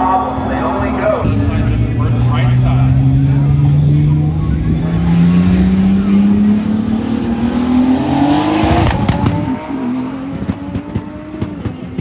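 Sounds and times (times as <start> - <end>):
race car engine accelerating: 1.1 - 12.0.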